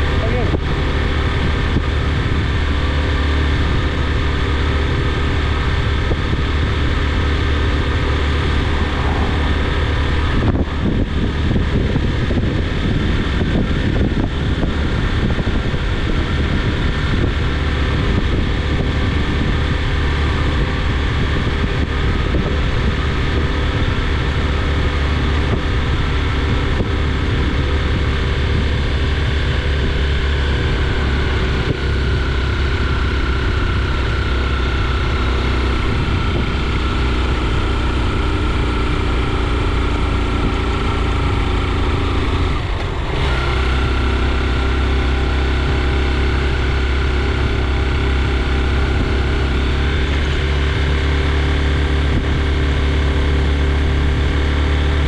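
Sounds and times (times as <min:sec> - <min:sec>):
road noise: 0:00.0 - 0:55.0
vehicle engine humming: 0:00.0 - 0:55.0.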